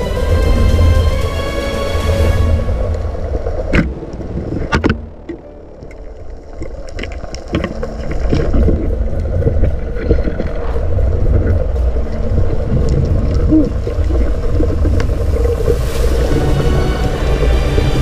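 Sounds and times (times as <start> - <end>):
low underwater rumble: 0.0 - 18.0.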